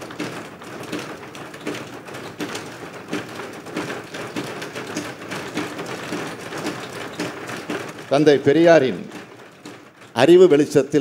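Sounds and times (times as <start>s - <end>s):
people thumping desks: 0.0s - 11.0s.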